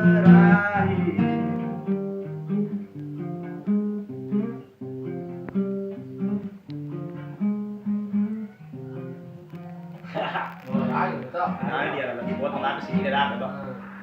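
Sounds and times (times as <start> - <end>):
guitar plucked notes and chords: 0.0 - 14.0.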